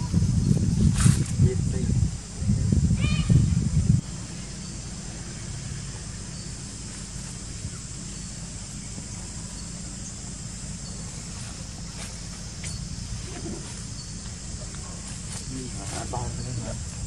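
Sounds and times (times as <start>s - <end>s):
constant low rumble: 0.0s - 17.0s.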